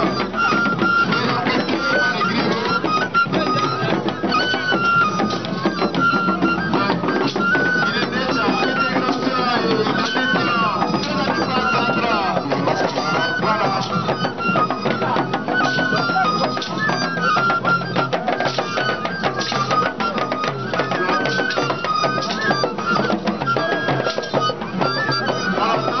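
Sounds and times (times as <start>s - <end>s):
fast drumming and percussion: 0.0s - 26.0s
high melody: 0.0s - 26.0s.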